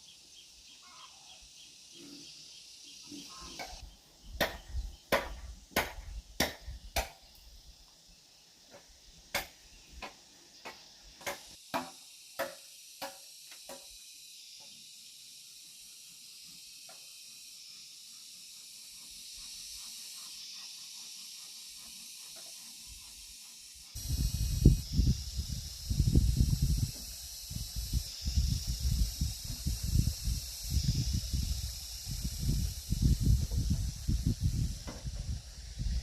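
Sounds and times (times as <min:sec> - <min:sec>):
steady high hiss: 0:00.0 - 0:36.0.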